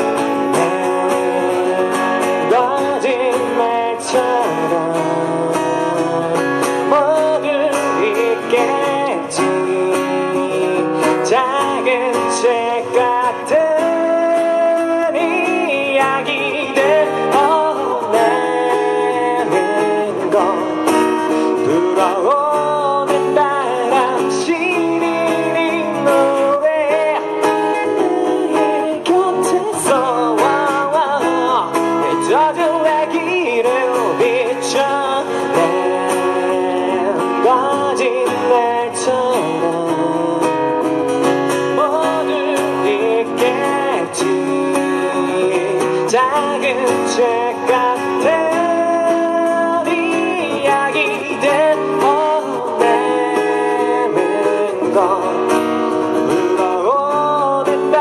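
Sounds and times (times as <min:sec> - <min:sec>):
acoustic guitar strumming: 0:00.0 - 0:58.0
man singing into microphone: 0:00.0 - 0:58.0.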